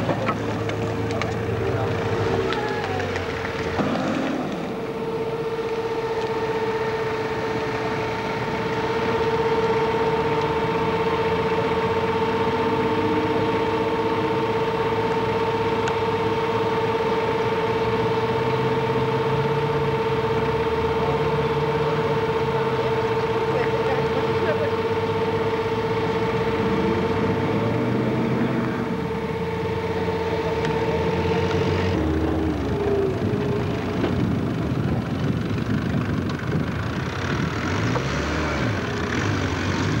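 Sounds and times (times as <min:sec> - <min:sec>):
off-road vehicle engine running: 0:00.0 - 0:40.0
high-pitched whine and hiss: 0:00.9 - 0:34.6.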